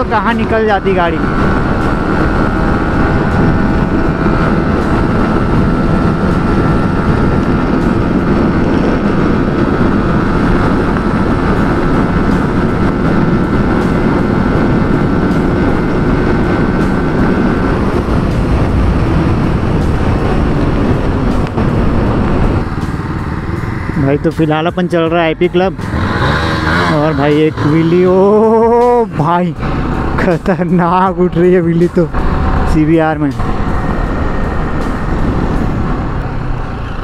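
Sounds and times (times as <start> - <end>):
motorcycle running at high revs: 0.0 - 37.0
thin engine whine: 0.0 - 37.0
wind rush on microphone: 0.0 - 37.0.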